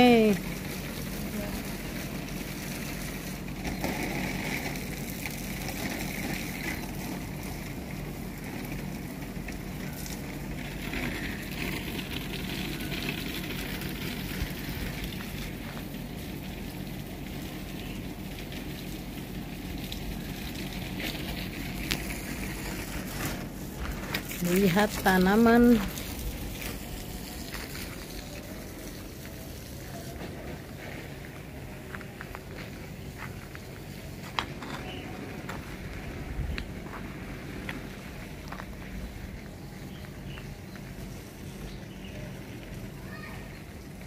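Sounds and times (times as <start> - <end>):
hose water pattering on leaves: 0.0 - 44.0.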